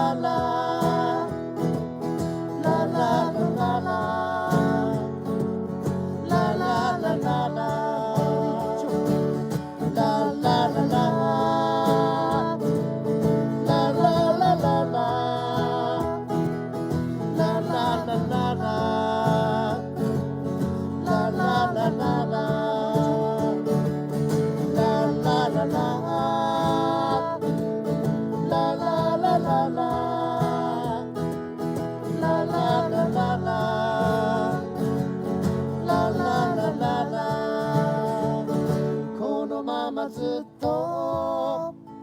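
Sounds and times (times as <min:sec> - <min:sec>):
acoustic guitar strumming: 0:00.0 - 0:42.0
person singing wordless melody: 0:00.0 - 0:42.0.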